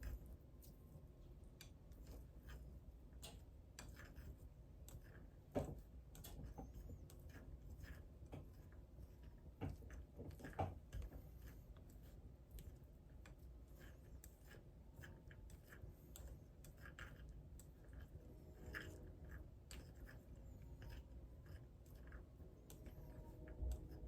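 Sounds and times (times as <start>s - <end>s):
faint chewing and munching: 0.0s - 24.0s.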